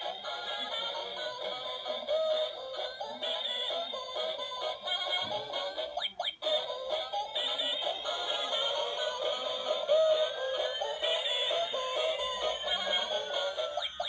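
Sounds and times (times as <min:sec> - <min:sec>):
electronic toy singing: 0:00.0 - 0:14.0.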